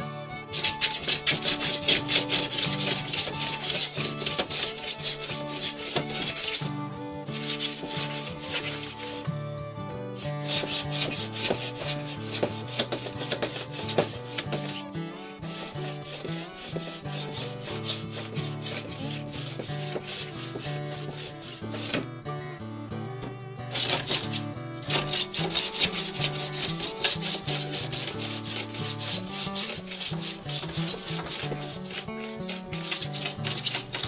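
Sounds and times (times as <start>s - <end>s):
faint background music: 0.0s - 34.0s
sandpaper rubbing on wood: 0.5s - 6.7s, 7.3s - 9.2s, 10.2s - 22.0s, 23.7s - 34.0s.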